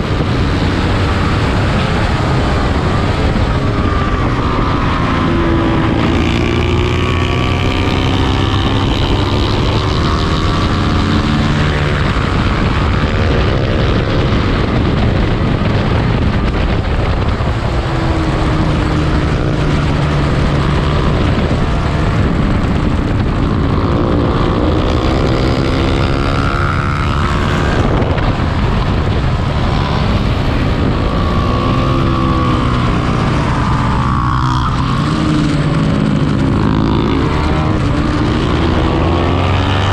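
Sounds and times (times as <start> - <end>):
race motorcycle engine revving: 0.0 - 39.9.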